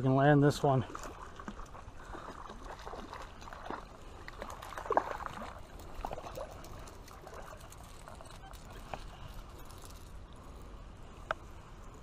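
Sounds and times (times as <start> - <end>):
water splashing and sloshing: 0.1 - 12.0.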